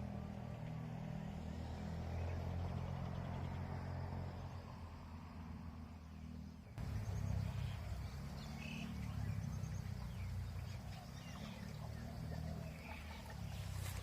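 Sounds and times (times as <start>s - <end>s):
small birds chirping: 0.3s - 14.0s.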